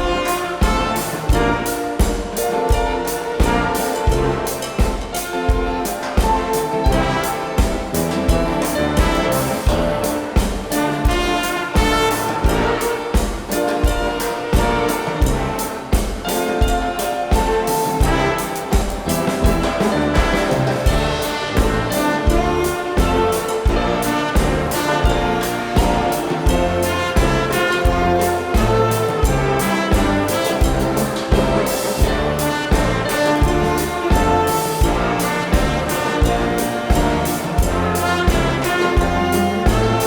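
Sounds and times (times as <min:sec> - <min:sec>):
orchestral music with trumpets: 0:00.0 - 0:40.0
steady beat: 0:00.0 - 0:40.0.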